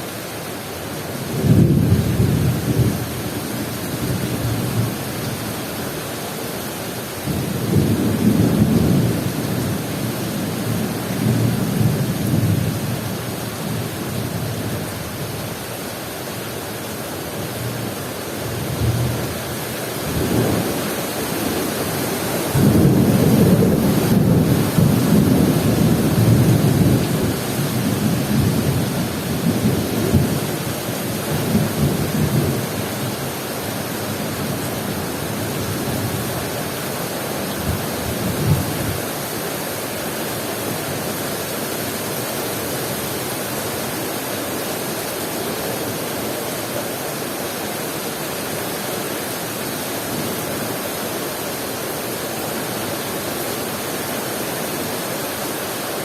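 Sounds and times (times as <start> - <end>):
steady heavy rain: 0.0 - 56.0.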